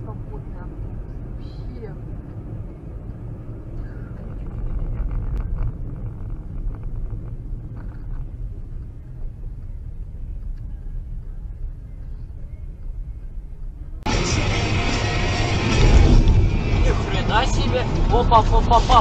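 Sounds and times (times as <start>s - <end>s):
car driving on snowy road: 0.0s - 19.0s.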